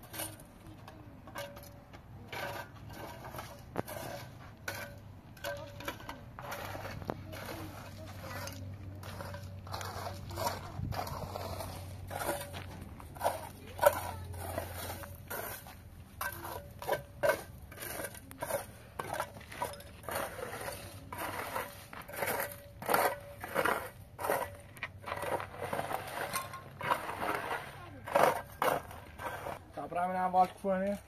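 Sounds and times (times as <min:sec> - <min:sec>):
rubble scraped by hand: 0:00.0 - 0:29.7.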